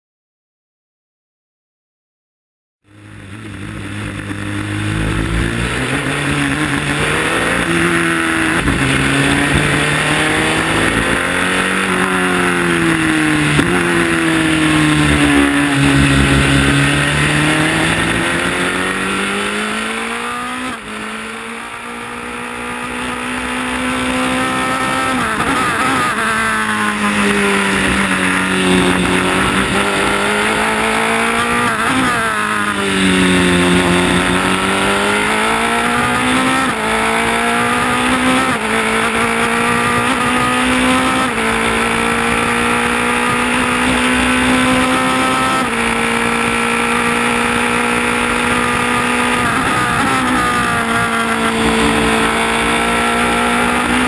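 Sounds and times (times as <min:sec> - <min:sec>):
race car engine revving: 0:02.9 - 0:54.0.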